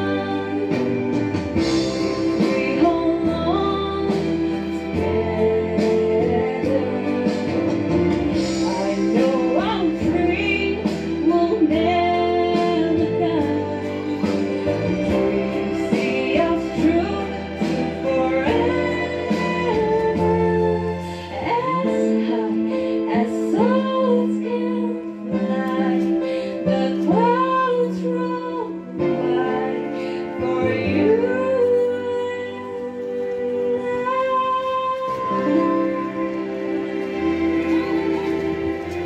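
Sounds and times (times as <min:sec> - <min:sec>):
instrumental accompaniment: 0:00.0 - 0:39.0
woman singing: 0:00.0 - 0:39.0.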